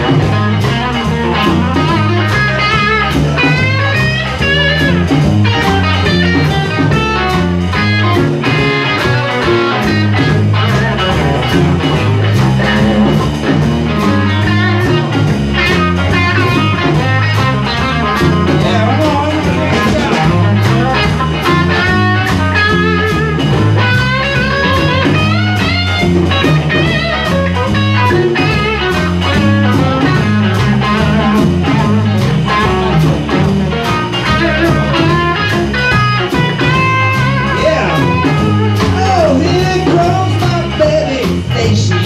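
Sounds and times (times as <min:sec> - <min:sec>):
bass line: 0:00.0 - 0:42.0
lead guitar: 0:00.0 - 0:42.0
live blues band: 0:00.0 - 0:42.0.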